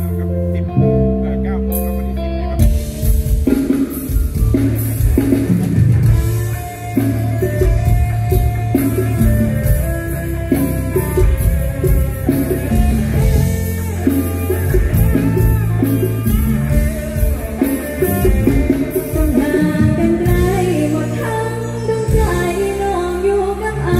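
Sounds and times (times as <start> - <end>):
electric guitar: 0.0 - 23.9
drum kit beat: 1.7 - 21.3.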